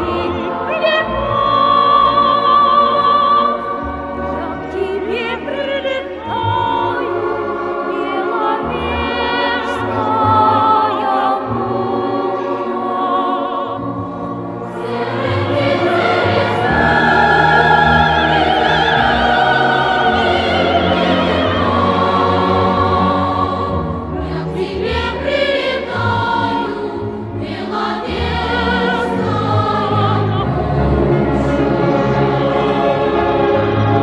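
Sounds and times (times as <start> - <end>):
choir singing held notes: 0.0 - 34.0.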